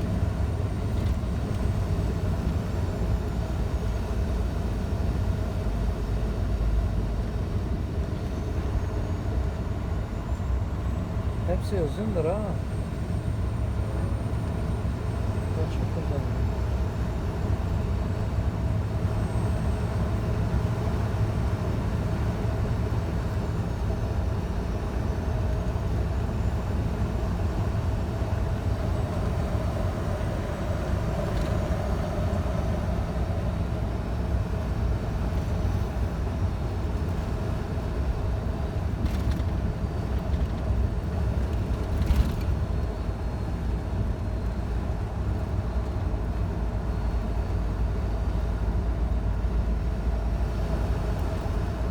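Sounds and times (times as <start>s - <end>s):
road and tyre rumble: 0.0s - 51.9s
truck engine drone: 0.0s - 51.9s.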